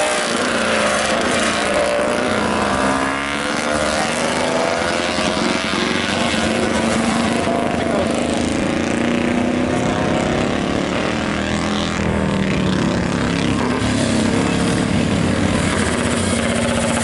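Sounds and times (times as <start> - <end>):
racing motorcycle engine: 0.0 - 17.0.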